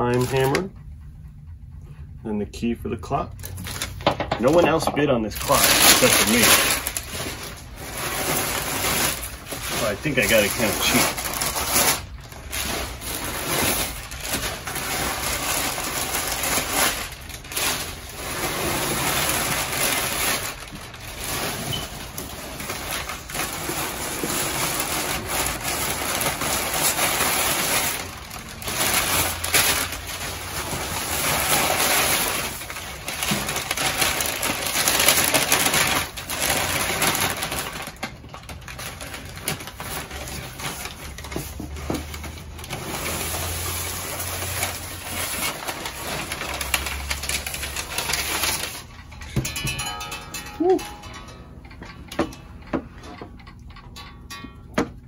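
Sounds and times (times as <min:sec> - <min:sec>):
paper crinkling and rustling: 0:03.4 - 0:51.3.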